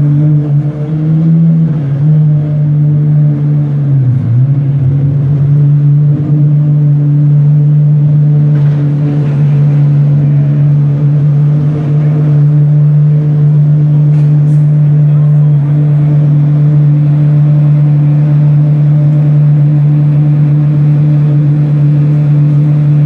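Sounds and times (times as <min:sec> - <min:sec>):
car engine running steadily: 0:00.0 - 0:23.0.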